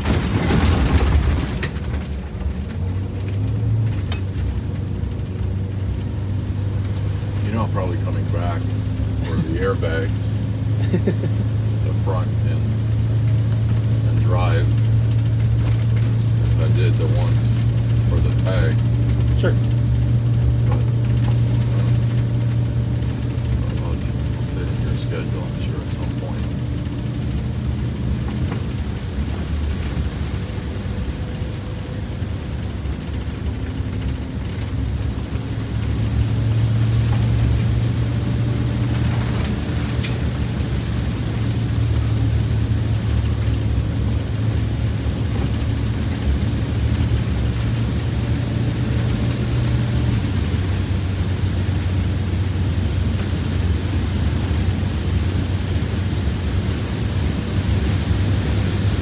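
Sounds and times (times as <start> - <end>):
diesel bus engine: 0.0 - 59.0
road noise: 0.0 - 59.0.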